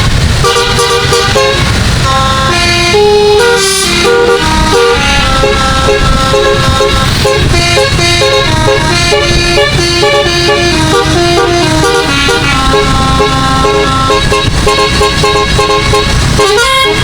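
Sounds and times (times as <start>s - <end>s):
musical air horn melody: 0.4s - 17.0s
low rumble: 1.4s - 16.4s.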